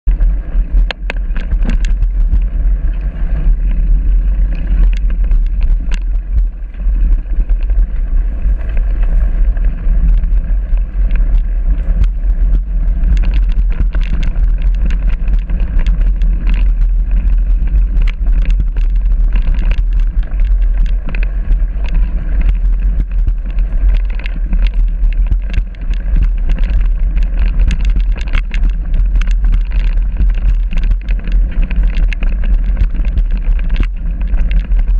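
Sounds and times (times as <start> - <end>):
wind and rolling rumble: 0.0 - 34.9
bike clicks and rattles: 0.1 - 34.9.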